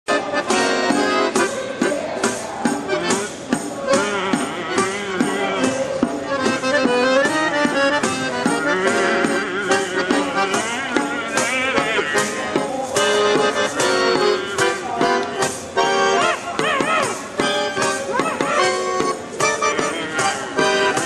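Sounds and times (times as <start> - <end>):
piano accordion: 0.1 - 21.0
hand drum playing: 0.2 - 21.0.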